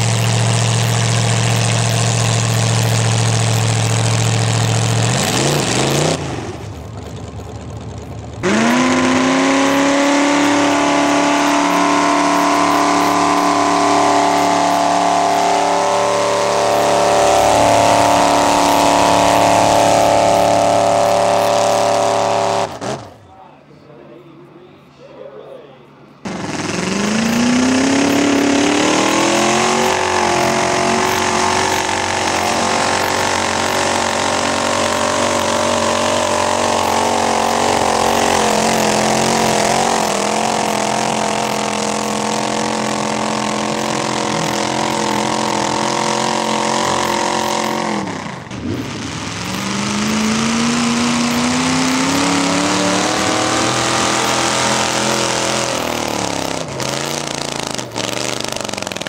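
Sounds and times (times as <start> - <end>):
second truck engine revving: 0.0 - 23.4, 26.2 - 59.0
truck engine revving: 0.0 - 24.9, 25.9 - 59.0.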